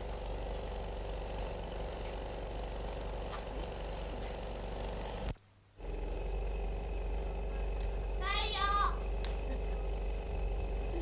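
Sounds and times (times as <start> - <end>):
low electrical hum: 0.0 - 11.0
steady hiss: 0.0 - 11.0.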